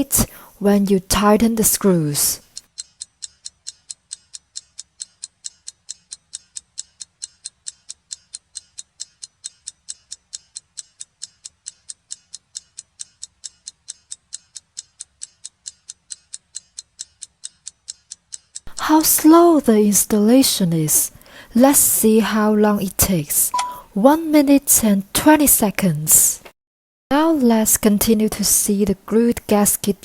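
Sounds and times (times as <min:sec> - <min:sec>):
fast clock ticking: 0:00.0 - 0:24.6.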